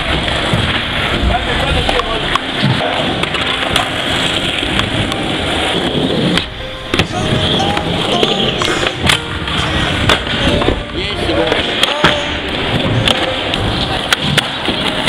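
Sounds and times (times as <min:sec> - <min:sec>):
skateboard clacks: 0:00.0 - 0:15.0
skateboard wheels rolling on asphalt: 0:00.0 - 0:15.0.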